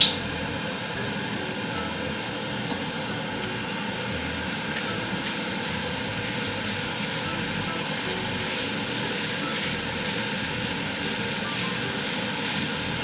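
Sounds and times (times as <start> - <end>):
food sizzling in a hot pan: 0.0 - 13.0.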